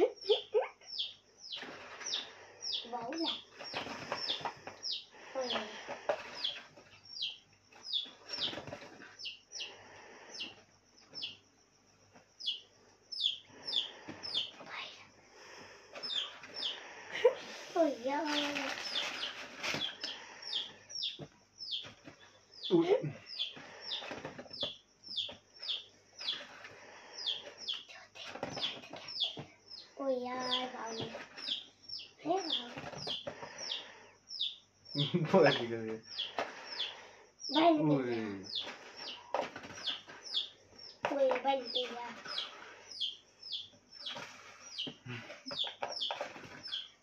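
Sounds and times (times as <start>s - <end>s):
small bird chirping: 0.0s - 47.0s.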